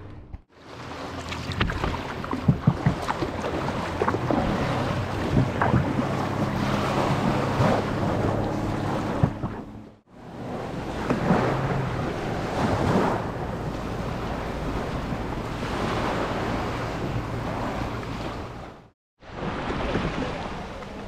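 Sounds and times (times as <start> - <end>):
small waves washing: 0.5 - 21.0
wind buffeting microphone: 1.4 - 18.9.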